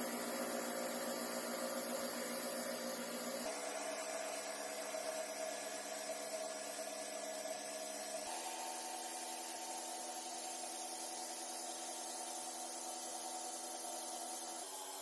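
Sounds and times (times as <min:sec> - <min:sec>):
small electric motor running: 0:00.0 - 0:15.0.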